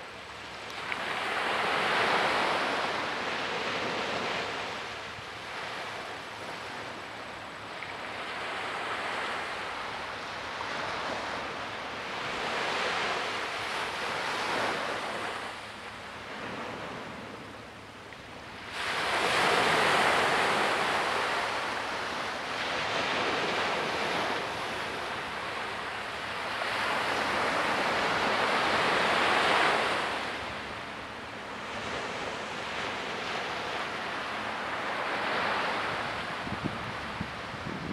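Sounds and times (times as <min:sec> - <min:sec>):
small waves breaking on beach: 0:00.0 - 0:17.4, 0:18.6 - 0:37.9.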